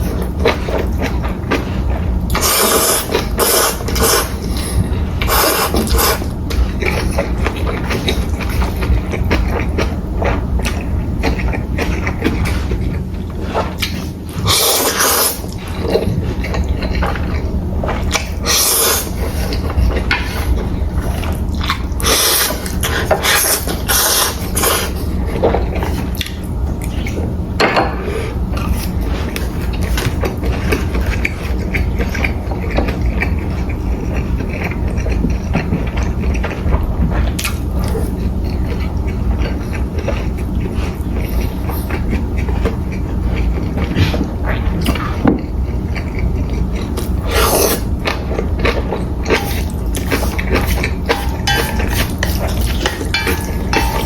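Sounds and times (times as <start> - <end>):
chewing and slurping: 0.0 - 54.0
steady low hum: 0.0 - 54.0.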